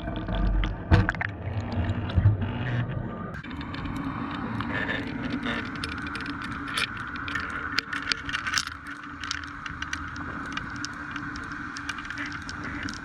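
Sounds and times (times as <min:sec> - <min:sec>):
boat engine hum underwater: 0:00.0 - 0:13.0
sharp clicks and crackles: 0:00.0 - 0:13.0.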